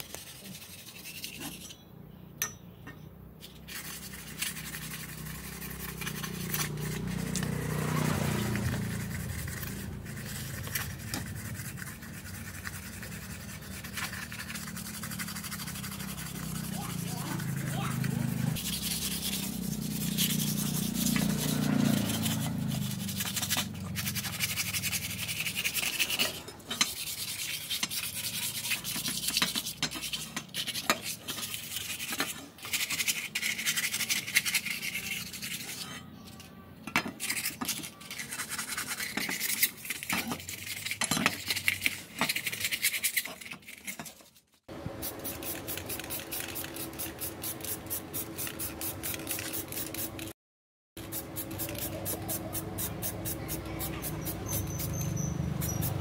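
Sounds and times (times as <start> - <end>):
hand scraping rusty metal: 0.0 - 50.3, 51.0 - 56.0.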